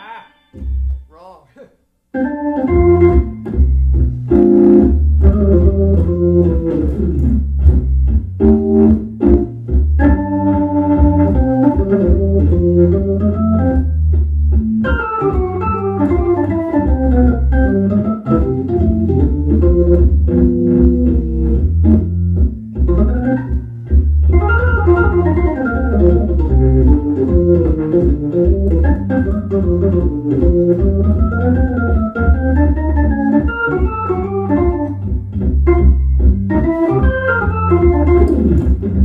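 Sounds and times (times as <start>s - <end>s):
organ chords with deep bass: 2.2s - 39.0s.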